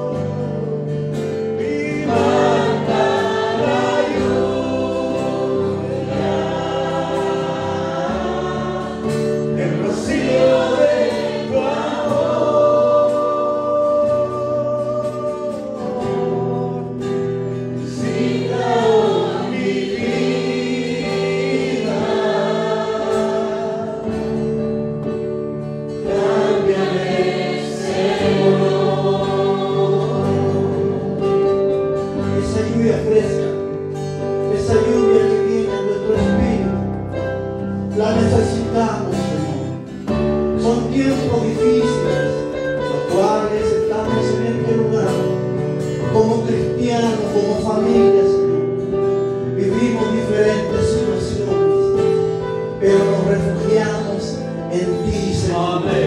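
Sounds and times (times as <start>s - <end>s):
choir singing worship song: 0.0s - 56.0s
instrumental backing: 0.0s - 56.0s.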